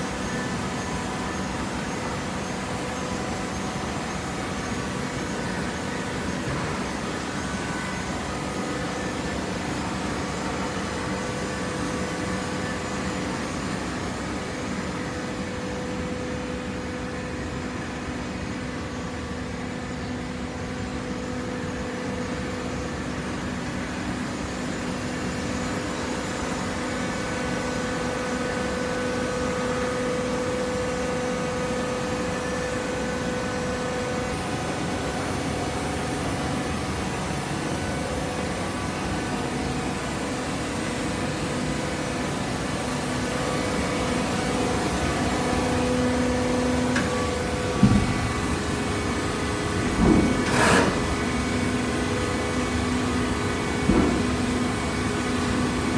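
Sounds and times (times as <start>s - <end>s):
machinery humming steadily: 0.0s - 55.9s.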